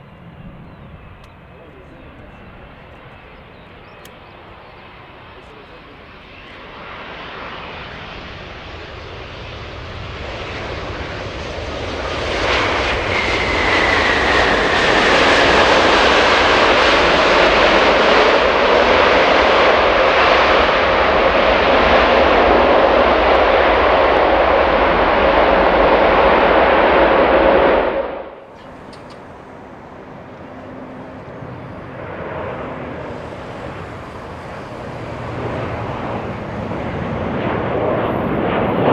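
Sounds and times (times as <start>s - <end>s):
jet engines passing close: 0.0s - 38.9s.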